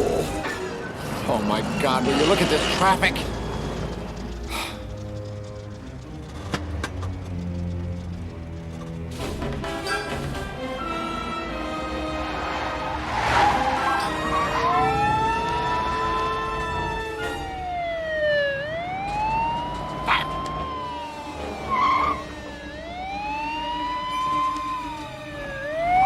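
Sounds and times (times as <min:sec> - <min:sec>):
police siren wailing: 0:00.0 - 0:06.2, 0:10.6 - 0:26.0.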